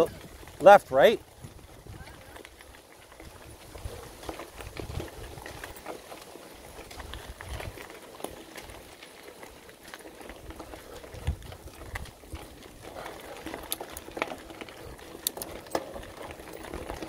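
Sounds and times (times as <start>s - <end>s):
bike knocking and rattling: 0.0s - 17.0s
tyres crunching on gravel: 0.0s - 17.0s.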